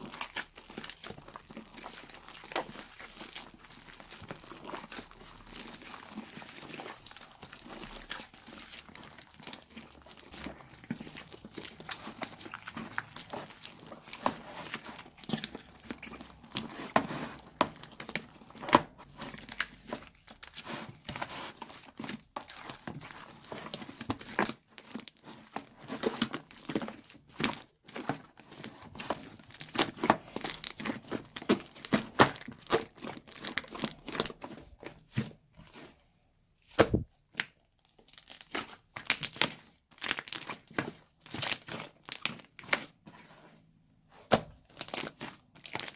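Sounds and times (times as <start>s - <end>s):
slime squishing with sticky pops: 0.0s - 43.3s, 44.0s - 45.9s.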